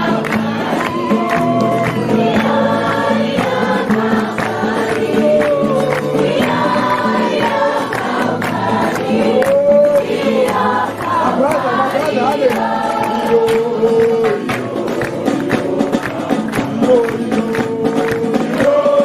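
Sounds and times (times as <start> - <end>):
people singing together: 0.0 - 19.0
sharp steady beat: 0.0 - 19.0.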